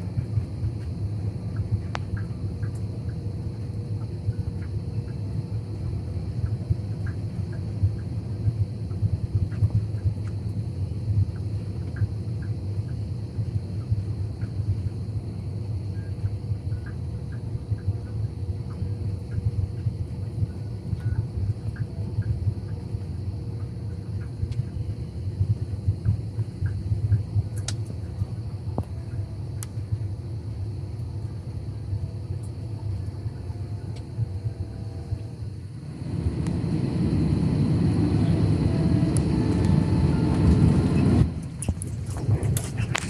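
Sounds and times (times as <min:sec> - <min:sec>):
airliner cabin engine and airflow rumble: 0:00.0 - 0:43.0
faint steady hum: 0:00.0 - 0:43.0.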